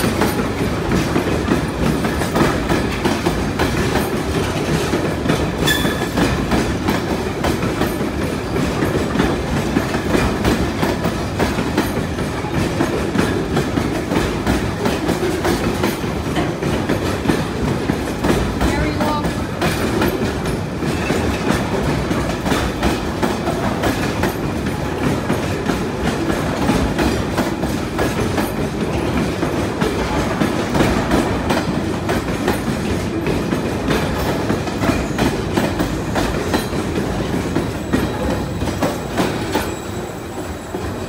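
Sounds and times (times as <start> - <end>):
clickety-clack over rail joints: 0.0 - 41.0
freight train wheels rumbling: 0.0 - 41.0.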